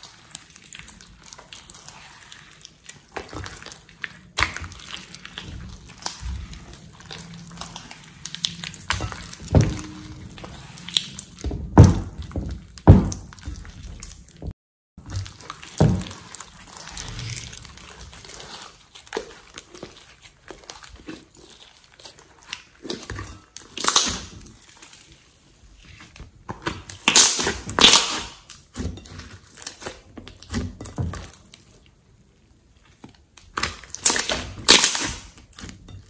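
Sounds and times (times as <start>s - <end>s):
slime squishing: 0.0s - 36.0s.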